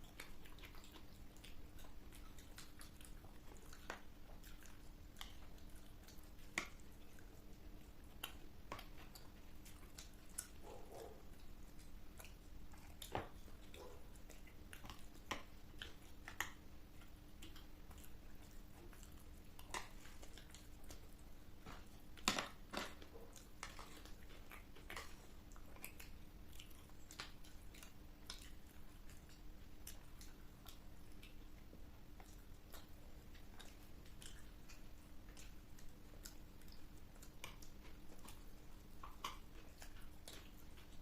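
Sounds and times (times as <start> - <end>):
chewing crisp snack: 0.0 - 41.0
faint steady hum: 0.0 - 41.0.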